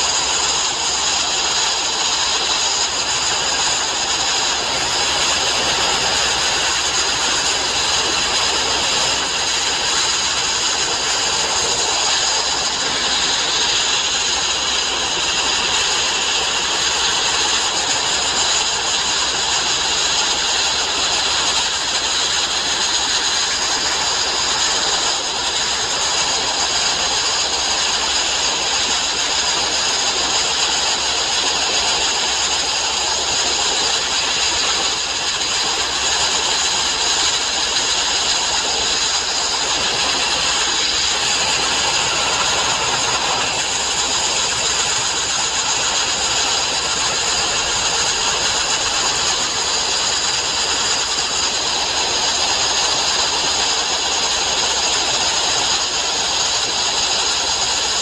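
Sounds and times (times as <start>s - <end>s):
sandblaster hissing rush: 0.0s - 58.0s.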